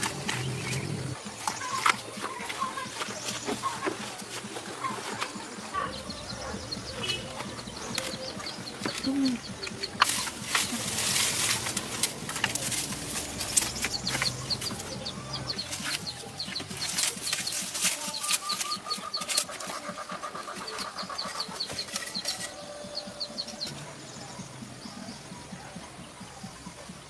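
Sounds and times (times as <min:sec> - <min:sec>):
small bird chirping: 0:00.0 - 0:27.0.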